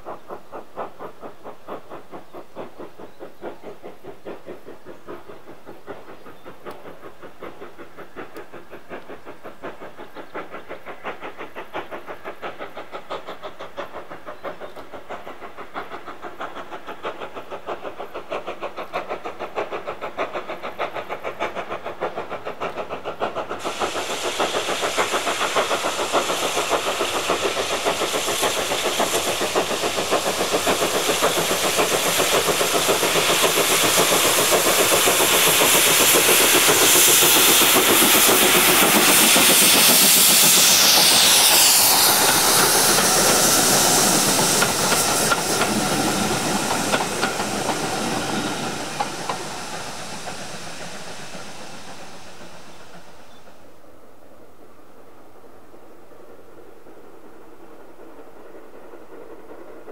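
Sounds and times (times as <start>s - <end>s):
loud steam hiss: 0.0s - 59.9s
steam locomotive exhaust beats: 0.0s - 59.9s.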